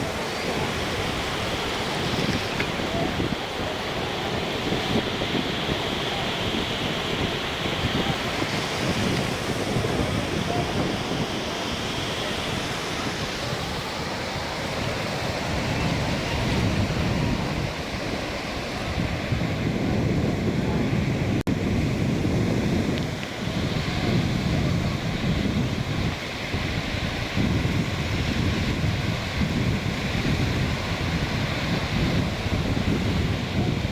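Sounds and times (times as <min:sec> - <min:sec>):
sea waves washing onto beach: 0:00.0 - 0:33.9
wind buffeting microphone: 0:00.0 - 0:33.9.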